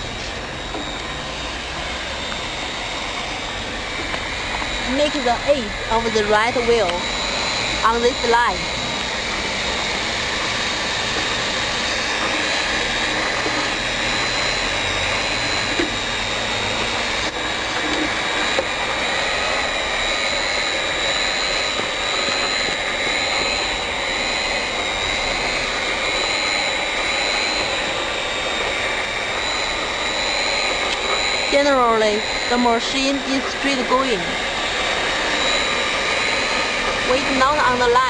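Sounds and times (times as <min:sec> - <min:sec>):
heat gun blower rushing: 0:00.0 - 0:38.0
thin high whine: 0:00.0 - 0:38.0.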